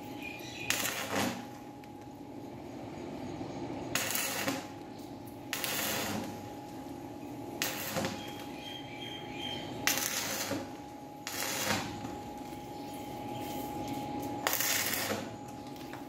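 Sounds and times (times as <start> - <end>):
arc welder crackling and hissing: 0.0 - 16.0
faint steady hum: 0.0 - 16.0.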